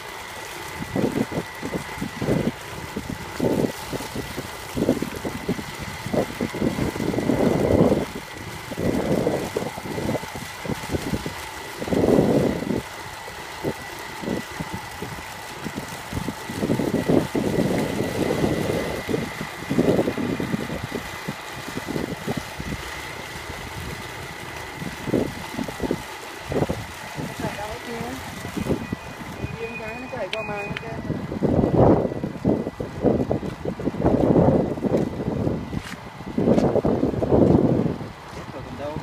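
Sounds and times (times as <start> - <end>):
water pump whining: 0.0 - 39.0
wind buffeting microphone: 0.6 - 39.0.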